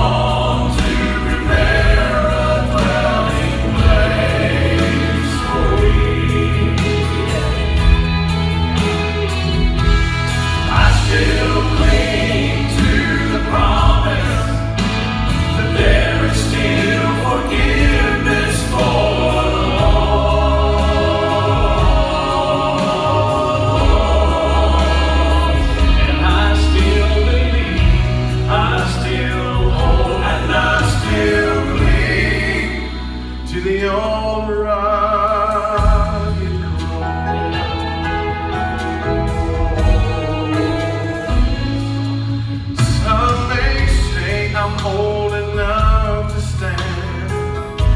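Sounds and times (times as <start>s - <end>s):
gospel quartet singing in harmony: 0.0s - 47.9s
instrumental accompaniment with bass: 0.0s - 47.9s.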